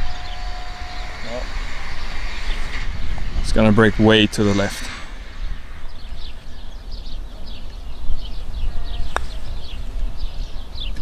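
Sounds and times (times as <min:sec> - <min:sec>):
birds twittering: 0:00.0 - 0:11.0
wind rumble on microphone: 0:00.0 - 0:11.0.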